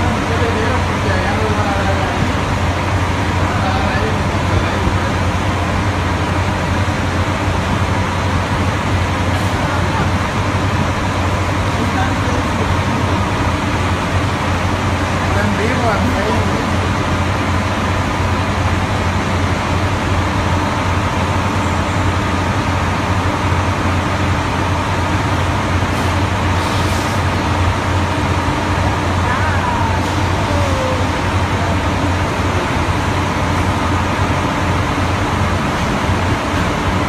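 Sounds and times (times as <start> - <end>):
diesel engine low drone: 0.0 - 37.0.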